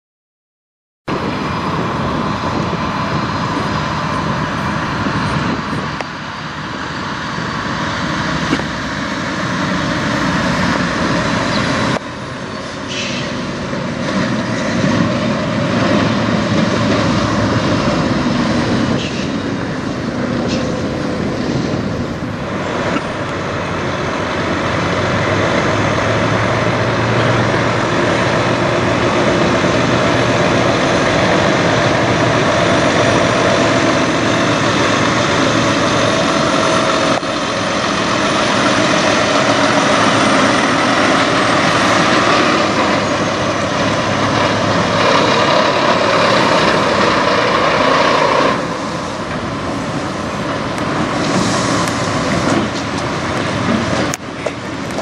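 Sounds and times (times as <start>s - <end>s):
highway traffic: 1.0s - 55.0s
truck diesel engine: 1.1s - 55.0s.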